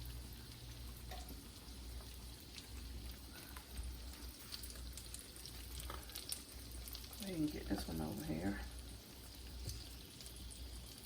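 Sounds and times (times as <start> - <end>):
hot oil crackling in a pan: 0.0 - 11.0.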